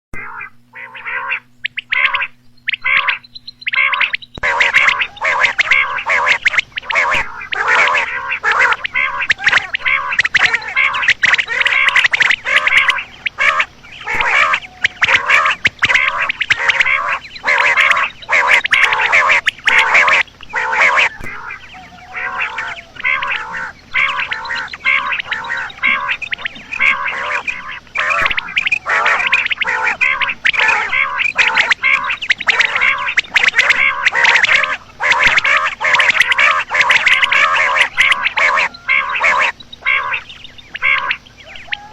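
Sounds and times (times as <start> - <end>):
quail calling: 0.2 - 41.9.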